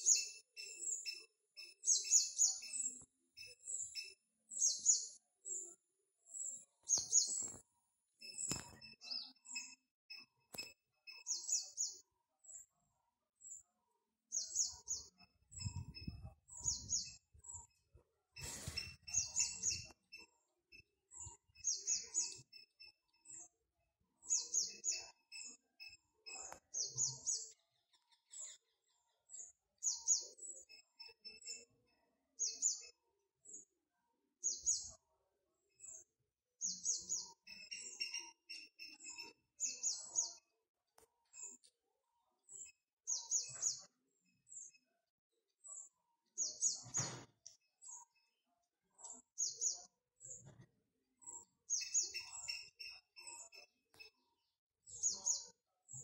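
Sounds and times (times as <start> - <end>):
small bird chirping: 0.0 - 12.7, 13.3 - 23.5, 24.2 - 33.7, 35.8 - 45.0, 45.6 - 48.4, 49.0 - 50.6, 51.2 - 56.0.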